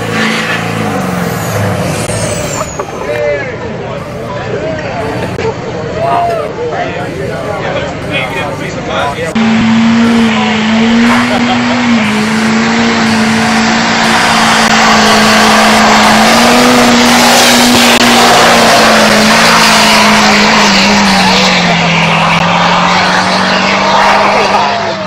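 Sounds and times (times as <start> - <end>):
diesel engine revving high: 0.0 - 3.2, 7.9 - 25.0
tyres squealing on asphalt: 0.0 - 25.0.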